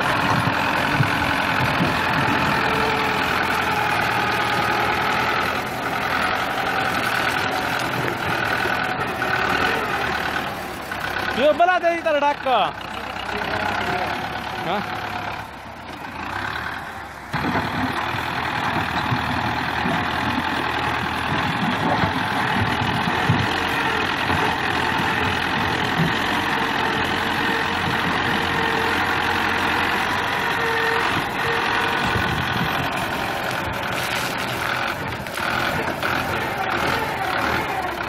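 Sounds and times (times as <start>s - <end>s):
loader scraping earth and stones: 0.0s - 38.0s
tractor engine running: 0.0s - 38.0s.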